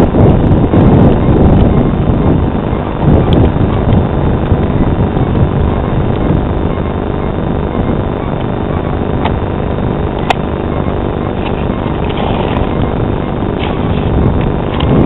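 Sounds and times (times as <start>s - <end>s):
loud low rumbling noise: 0.0s - 15.0s.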